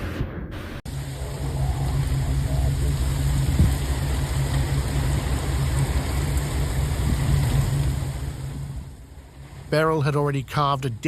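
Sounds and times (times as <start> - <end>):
steady low rumble: 0.0 - 11.0
heavy rain falling: 0.9 - 11.0.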